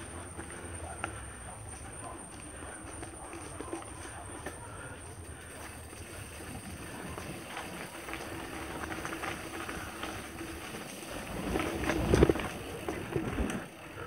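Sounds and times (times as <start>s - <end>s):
bike rattling: 0.0s - 14.0s
bike tyres crunching on dirt: 0.0s - 14.0s.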